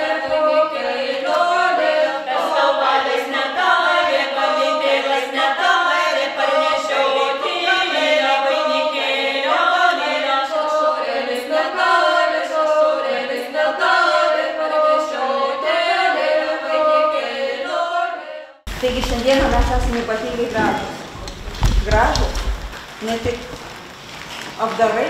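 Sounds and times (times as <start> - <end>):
choir singing unaccompanied: 0.0 - 21.4.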